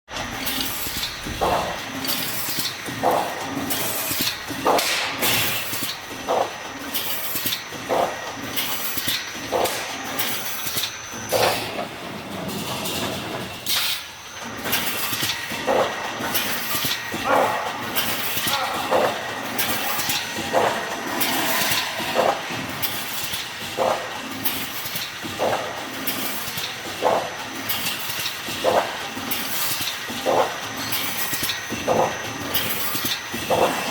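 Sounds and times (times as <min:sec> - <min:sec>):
steady machine noise: 0:00.1 - 0:33.9
welding machine clanking stroke: 0:00.2 - 0:33.9.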